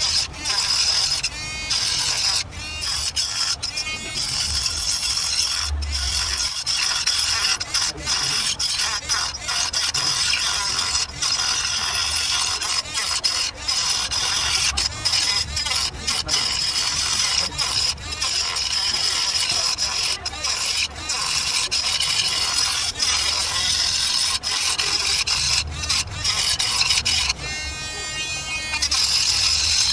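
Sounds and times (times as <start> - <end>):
rotary tool grinding plastic: 0.0 - 29.9.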